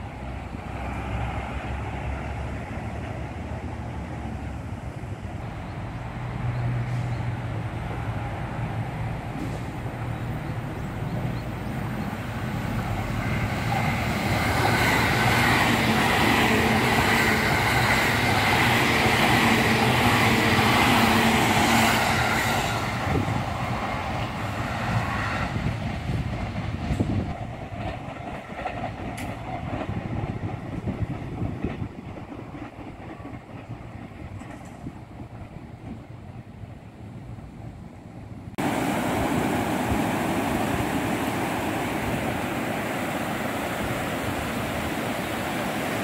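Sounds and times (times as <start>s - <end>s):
electric train passing at speed: 0.0s - 46.0s.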